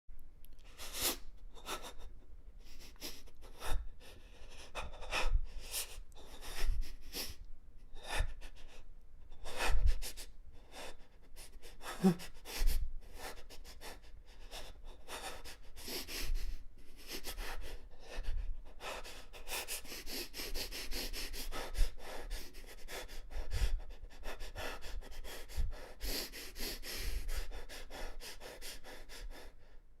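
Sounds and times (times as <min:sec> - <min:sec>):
sniffs: 0:00.7 - 0:07.4, 0:09.5 - 0:29.8
person breathing fast in panic: 0:00.7 - 0:29.9.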